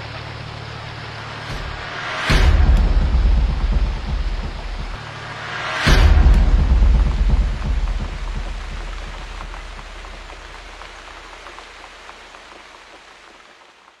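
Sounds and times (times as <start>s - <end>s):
low rumble: 0.0s - 12.3s
falling water hissing: 0.0s - 14.0s.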